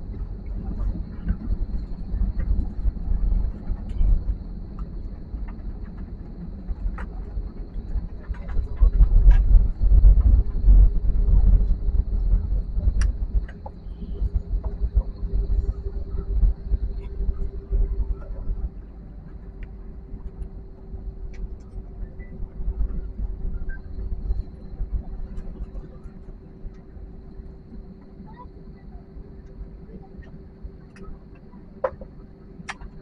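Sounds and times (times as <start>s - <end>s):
airliner cabin rumble: 0.0s - 33.0s
steady hum: 0.0s - 33.0s.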